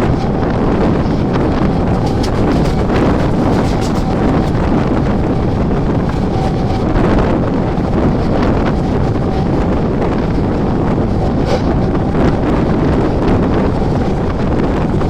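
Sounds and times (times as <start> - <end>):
electric train running: 0.0 - 15.0
wind buffeting microphone: 0.0 - 15.0.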